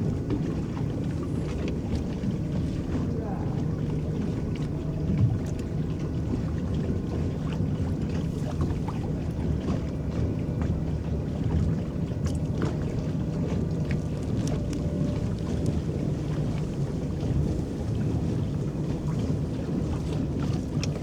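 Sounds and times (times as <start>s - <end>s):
water churning around paddles: 0.0s - 21.0s
water splashes and drips: 0.0s - 21.0s.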